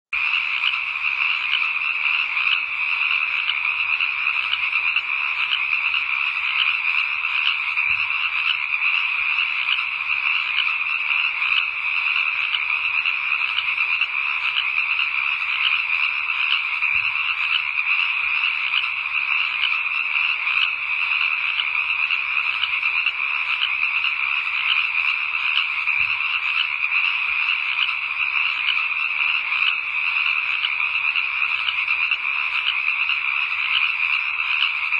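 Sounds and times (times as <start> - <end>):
frogs calling: 0.1 - 34.9.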